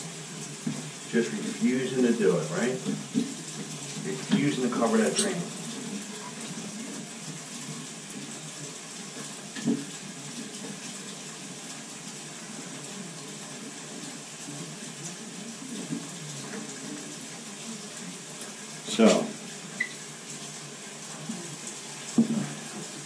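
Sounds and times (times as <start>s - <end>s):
shower water running: 0.0s - 23.0s.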